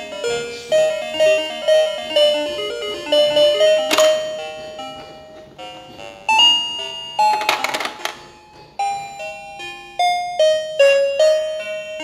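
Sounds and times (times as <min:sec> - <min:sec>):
toy machine electronic jingle: 0:00.3 - 0:12.0.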